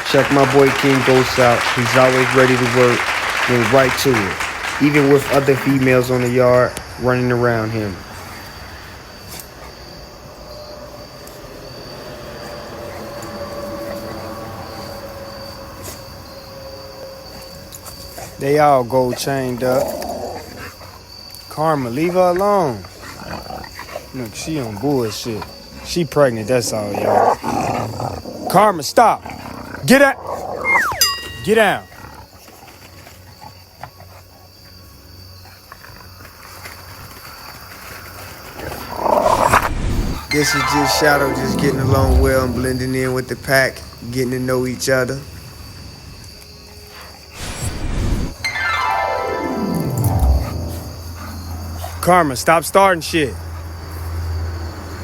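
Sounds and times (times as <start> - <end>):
high insect trill: 0.0 - 55.0.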